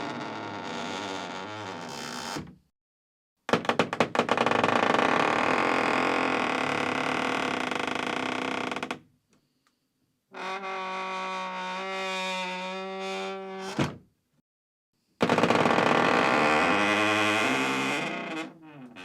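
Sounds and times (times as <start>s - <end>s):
wooden door creaking: 0.0s - 2.6s, 3.5s - 9.0s, 10.3s - 14.1s, 15.2s - 19.0s.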